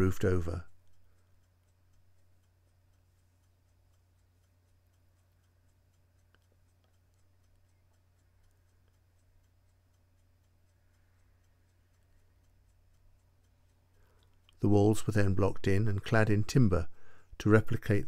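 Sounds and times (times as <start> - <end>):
rapid even ticking: 0.0 - 18.0.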